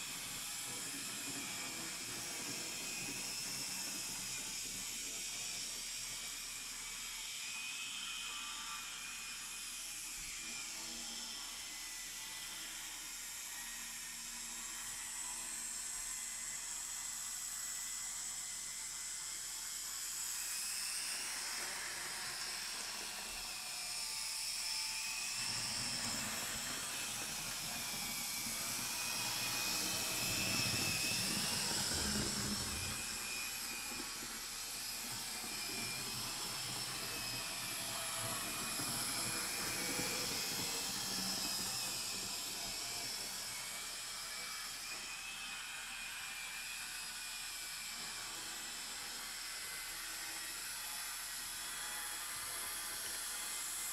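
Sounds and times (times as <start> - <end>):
small electric motor whine: 0.0 - 53.9.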